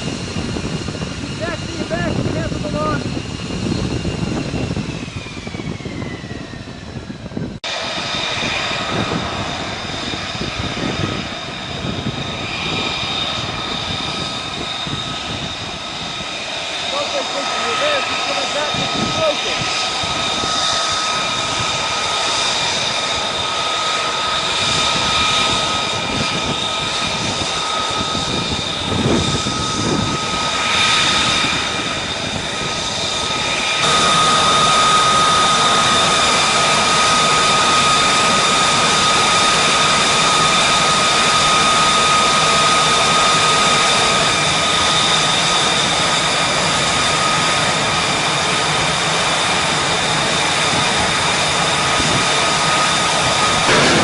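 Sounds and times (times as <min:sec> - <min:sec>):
jet engine whine: 0:00.0 - 0:54.0
rush of jet exhaust: 0:00.0 - 0:54.0.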